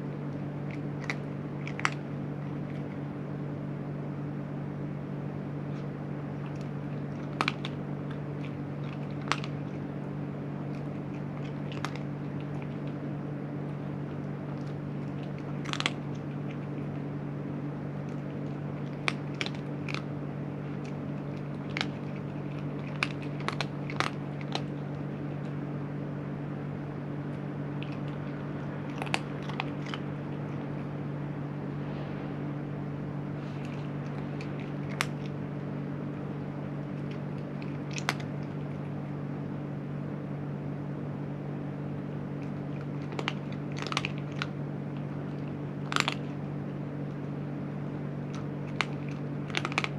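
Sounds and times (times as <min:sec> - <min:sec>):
cat crunching dry food: 0:00.0 - 0:03.3, 0:05.5 - 0:31.2, 0:32.7 - 0:39.9, 0:42.0 - 0:49.9
low mechanical hum: 0:00.0 - 0:49.9.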